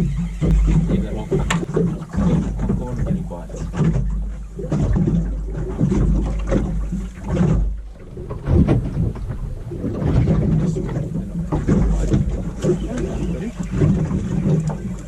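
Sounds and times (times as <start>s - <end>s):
low buffeting on microphone: 0.0s - 15.0s.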